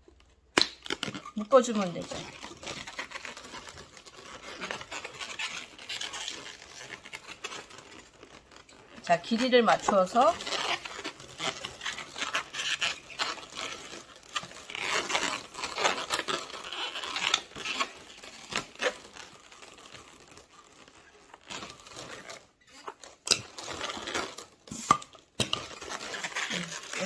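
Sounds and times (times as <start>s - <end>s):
balloons rubbing and squeaking: 0.0s - 27.0s.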